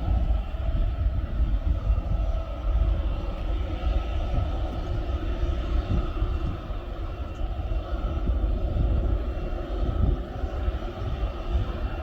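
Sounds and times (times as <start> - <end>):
airliner engines roaring: 0.0 - 12.0.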